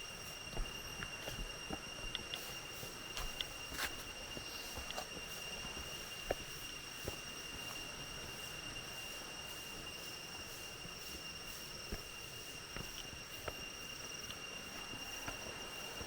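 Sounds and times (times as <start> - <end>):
footsteps on a trail: 0.0 - 16.0
insects droning: 0.0 - 16.0.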